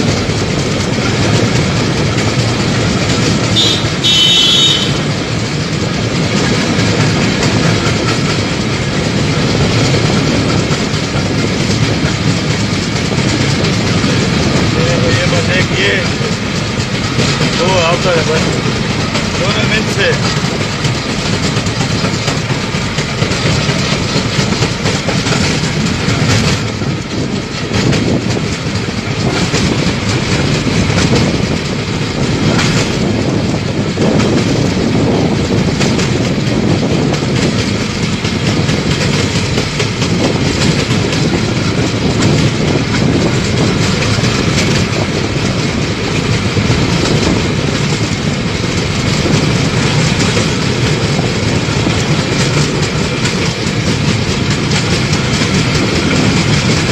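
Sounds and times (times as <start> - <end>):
trolley wheels rattling on rails: 0.0 - 56.9.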